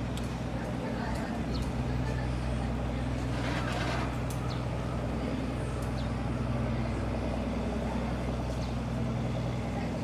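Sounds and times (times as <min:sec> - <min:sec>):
boat engine drone: 0:00.0 - 0:10.0.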